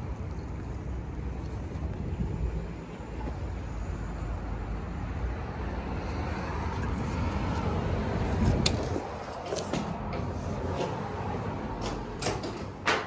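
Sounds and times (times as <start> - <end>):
car passing: 0.0 - 12.8
street traffic: 0.0 - 13.0.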